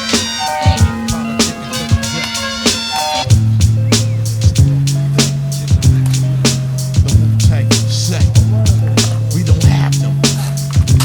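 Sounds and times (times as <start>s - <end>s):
deep bass line: 0.0s - 11.0s
instrumental hip-hop beat: 0.0s - 11.0s.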